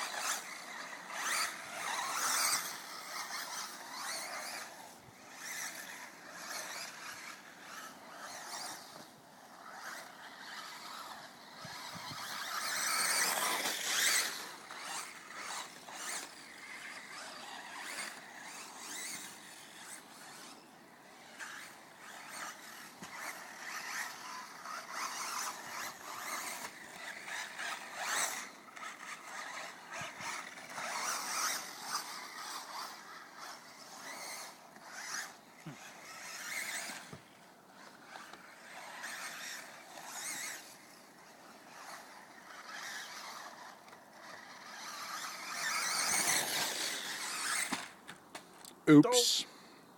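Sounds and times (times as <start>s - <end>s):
tyres scrabbling on dirt: 0.0s - 20.5s, 21.2s - 48.8s
radio-controlled car motor whine: 0.0s - 48.1s.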